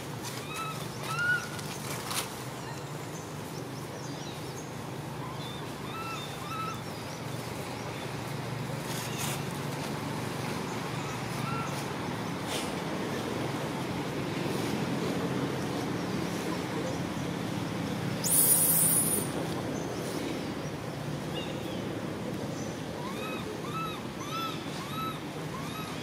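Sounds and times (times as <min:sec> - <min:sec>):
outdoor background hum: 0:00.0 - 0:26.0.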